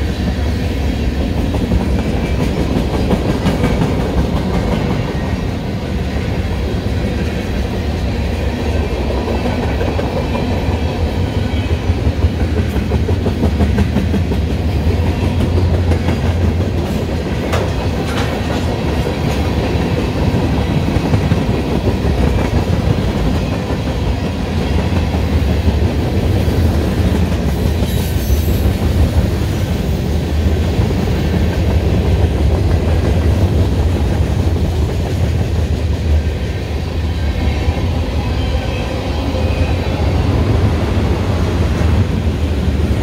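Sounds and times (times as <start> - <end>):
steel wheels rumbling on rails: 0.0 - 43.0.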